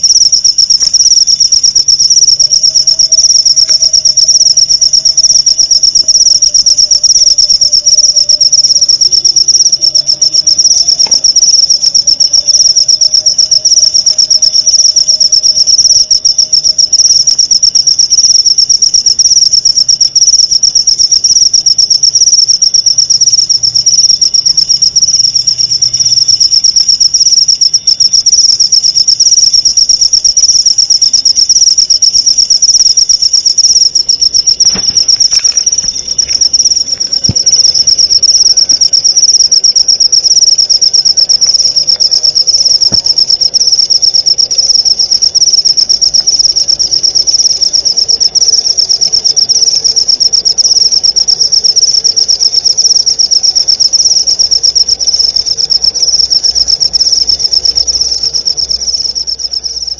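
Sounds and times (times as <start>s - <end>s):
insect trilling: 0.0s - 59.9s.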